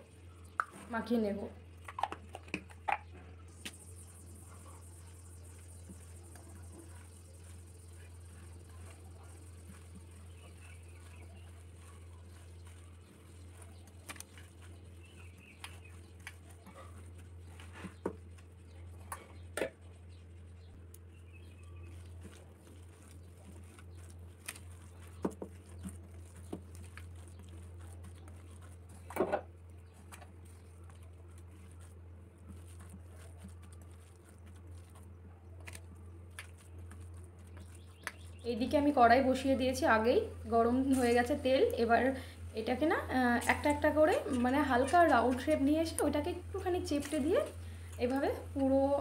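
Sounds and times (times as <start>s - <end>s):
hands squelching food in bowl: 0.0s - 49.0s
steady low hum: 0.0s - 49.0s.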